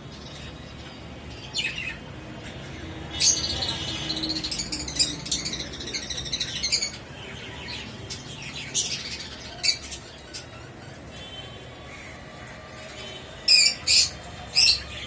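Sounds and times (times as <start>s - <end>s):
small birds chirping: 0.0s - 12.2s, 13.0s - 15.0s.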